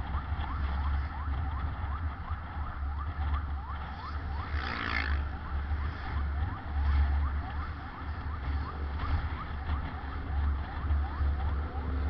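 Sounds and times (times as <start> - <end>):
ambulance siren yelping: 0.0 - 12.0.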